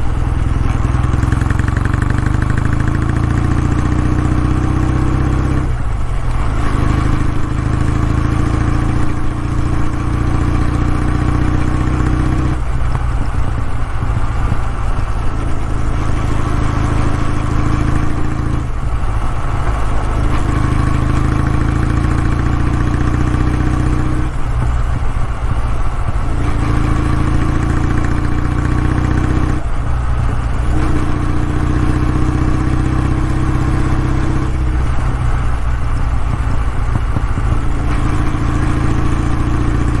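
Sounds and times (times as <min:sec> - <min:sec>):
motorcycle engine exhaust running: 0:00.0 - 0:40.0.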